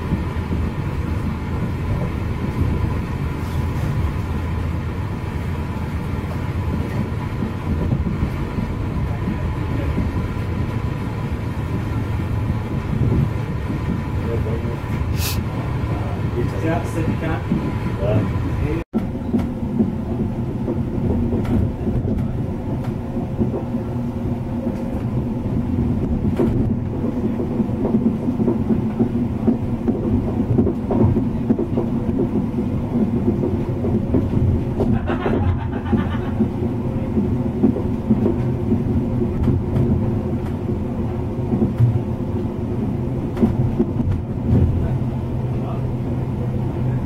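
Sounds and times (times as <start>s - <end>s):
rush of train noise: 0.0s - 47.0s
train wheels rumbling on rails: 0.0s - 47.0s.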